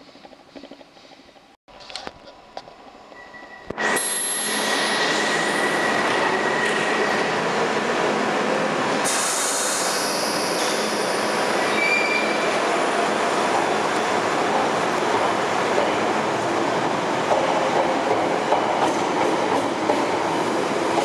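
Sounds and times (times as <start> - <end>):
train rumble with high squealing: 2.8 - 8.0, 8.6 - 21.0.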